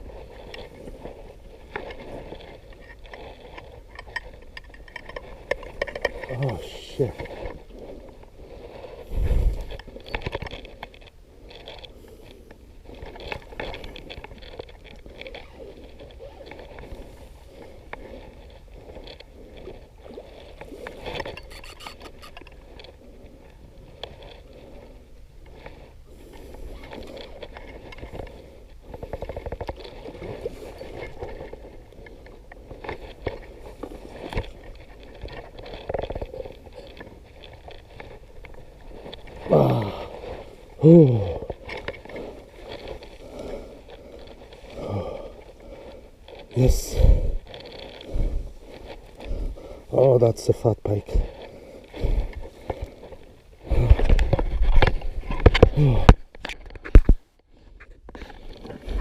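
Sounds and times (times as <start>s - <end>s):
fishing rod handling scraping: 0.0s - 59.0s.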